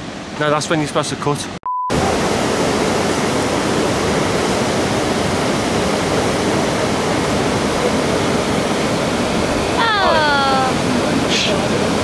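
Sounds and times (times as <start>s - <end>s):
water rushing over weir: 1.9s - 12.0s.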